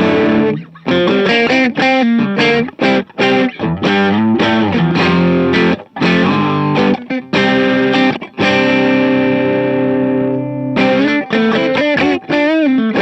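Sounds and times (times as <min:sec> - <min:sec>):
distorted electric guitar: 0:00.0 - 0:13.0.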